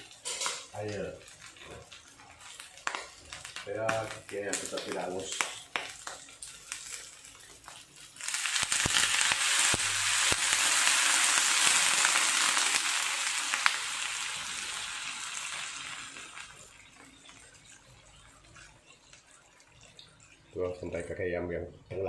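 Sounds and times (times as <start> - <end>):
oil popping: 0.0 - 21.3
water sizzling in hot oil: 0.0 - 21.4.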